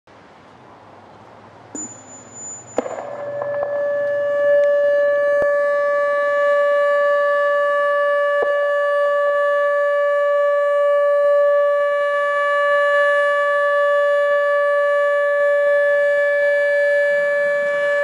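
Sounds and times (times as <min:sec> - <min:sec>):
steady siren alert tone: 0:01.8 - 0:18.0.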